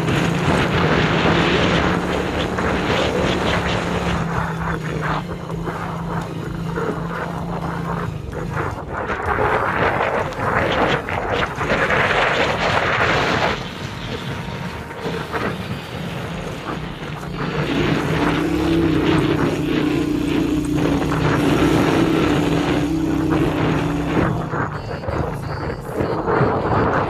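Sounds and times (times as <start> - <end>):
motorcycle engine drone: 0.0 - 27.0
rushing noise: 0.0 - 27.0.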